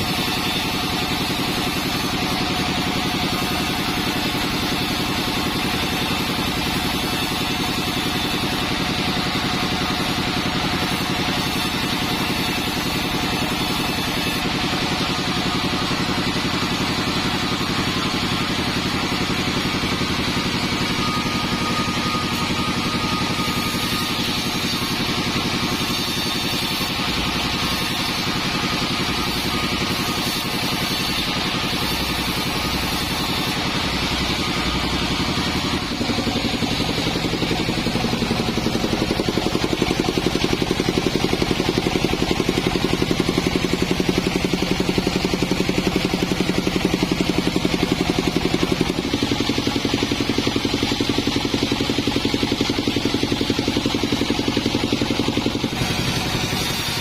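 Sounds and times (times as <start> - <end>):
band-saw sawmill running: 0.0 - 57.0.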